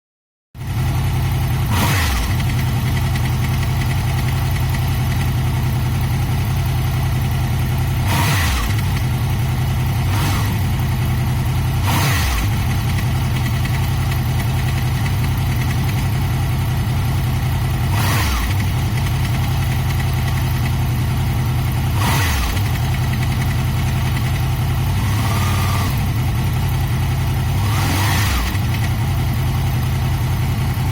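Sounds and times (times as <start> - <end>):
engine rattling: 0.6 - 30.9
motorcycle engine idling: 0.6 - 30.9
engine throttle blips: 1.0 - 30.9.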